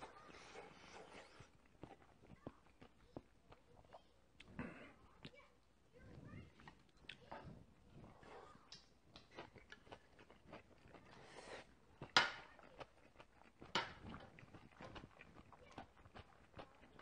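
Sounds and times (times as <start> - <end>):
person chewing food: 0.0 - 5.4, 6.5 - 17.0.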